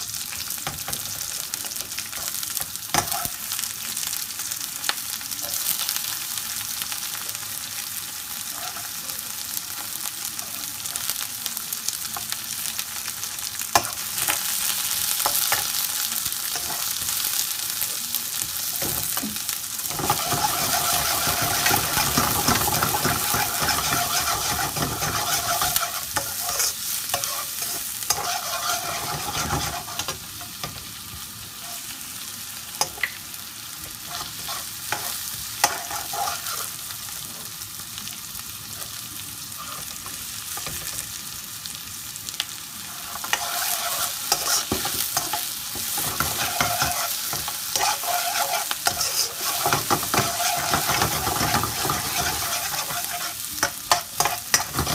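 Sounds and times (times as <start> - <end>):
vegetables sizzling in wok: 0.0 - 54.9.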